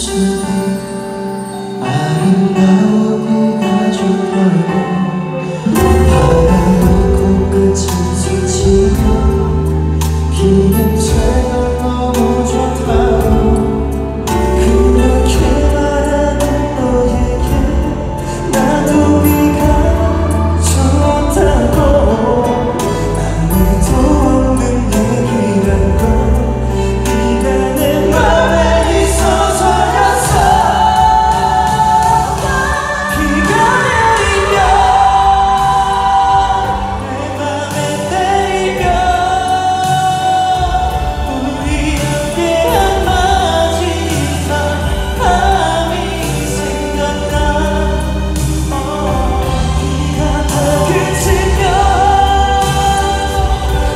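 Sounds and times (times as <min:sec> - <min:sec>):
instrumental accompaniment with bass: 0:00.0 - 0:53.9
male vocal group singing ballad: 0:00.0 - 0:53.9.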